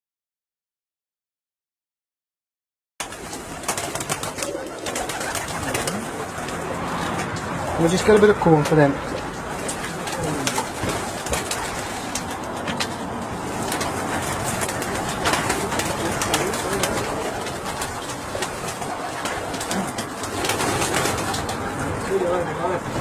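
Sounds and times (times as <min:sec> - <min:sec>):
pigeons cooing: 0:03.0 - 0:23.0.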